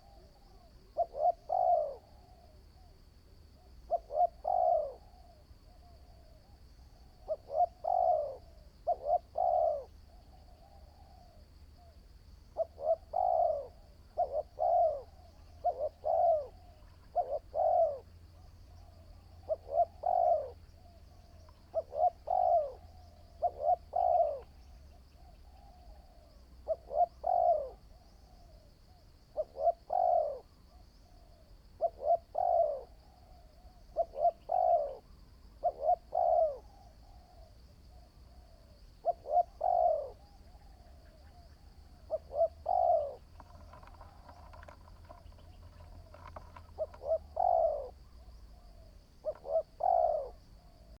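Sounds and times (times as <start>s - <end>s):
dove cooing: 0.0s - 51.0s.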